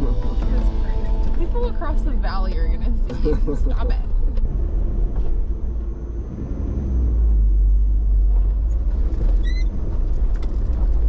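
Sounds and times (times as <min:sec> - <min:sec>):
engine and tyres rumbling: 0:00.0 - 0:11.0.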